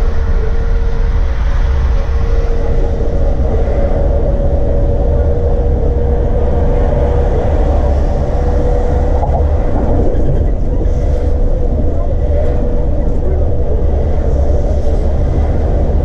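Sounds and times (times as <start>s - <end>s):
bus diesel engine rumble: 0.0s - 16.0s
steady whine: 0.0s - 16.0s.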